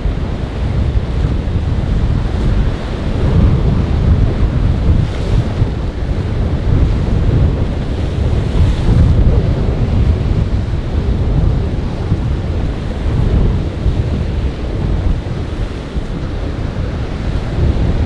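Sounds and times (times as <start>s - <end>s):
wind buffeting microphone: 0.0s - 18.0s
surf breaking against rocks: 0.1s - 18.0s.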